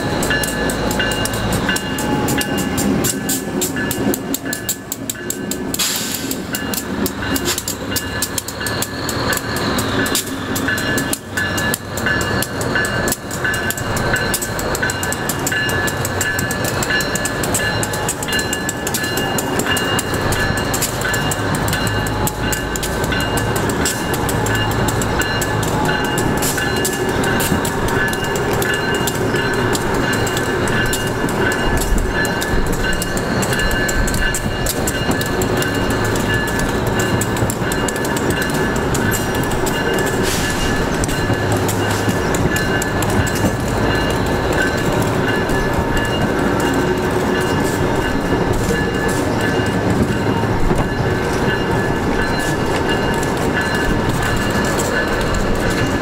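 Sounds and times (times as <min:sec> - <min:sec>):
train cars rumbling: 0:00.0 - 0:56.0.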